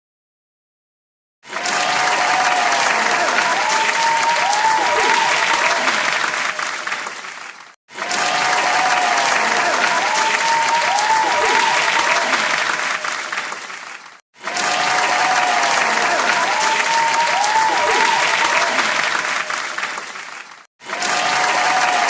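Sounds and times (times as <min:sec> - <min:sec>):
crowd clapping: 0:01.4 - 0:22.0.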